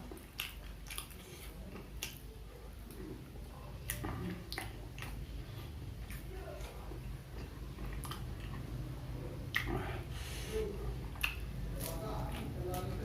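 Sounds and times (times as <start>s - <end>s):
chewing crunchy fried snacks: 0.0s - 13.0s.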